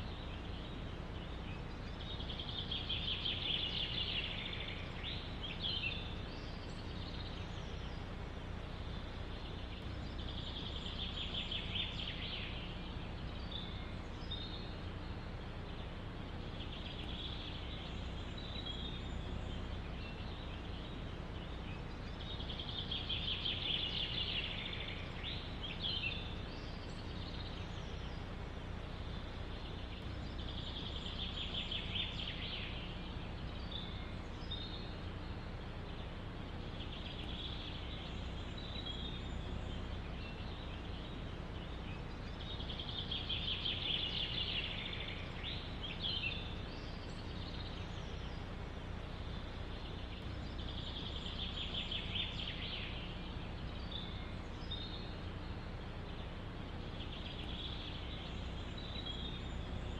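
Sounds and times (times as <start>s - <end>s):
faint bird chirps: 0.0s - 59.9s
low background noise: 0.0s - 59.9s
songbird trilled song: 0.0s - 59.9s.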